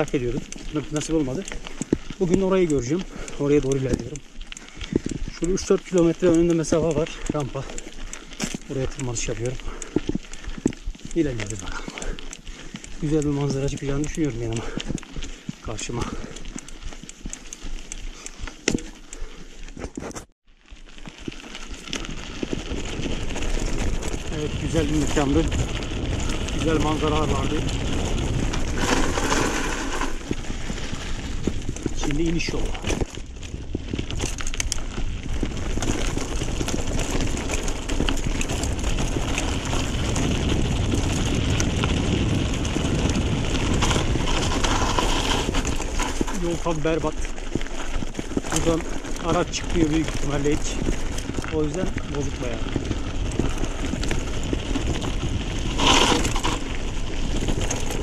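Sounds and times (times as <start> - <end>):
mountain bike on stony track: 0.0 - 58.0.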